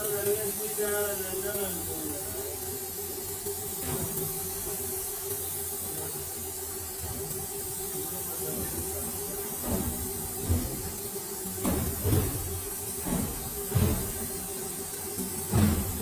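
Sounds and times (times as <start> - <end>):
steady hissing: 0.0 - 16.0.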